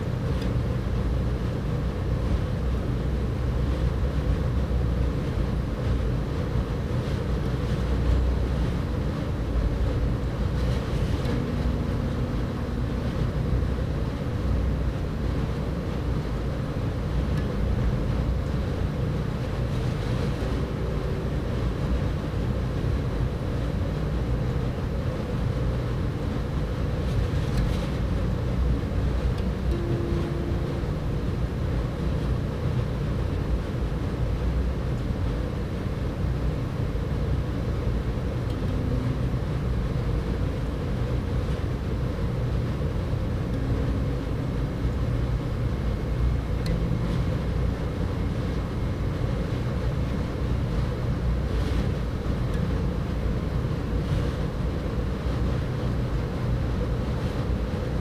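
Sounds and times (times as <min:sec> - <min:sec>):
low rumbling drone: 0:00.0 - 0:58.0.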